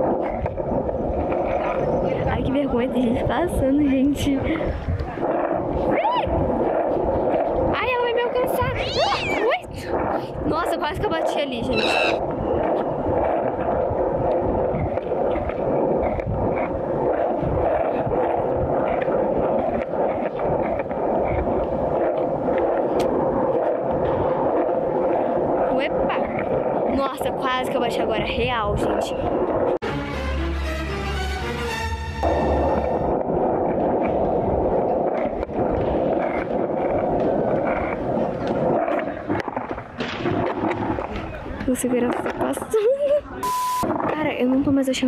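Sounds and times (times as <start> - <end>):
wind on microphone: 0.0 - 29.8, 31.9 - 45.0
skateboard wheels rolling: 0.0 - 45.0.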